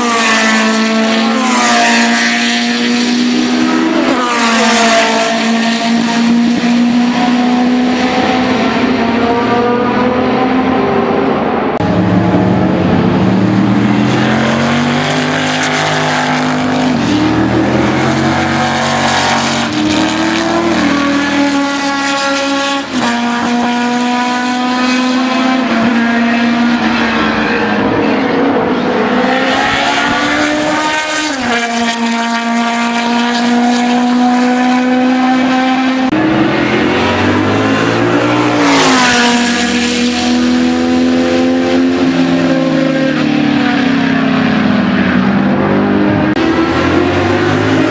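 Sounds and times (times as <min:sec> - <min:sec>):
racing car engines: 0:00.0 - 0:47.9.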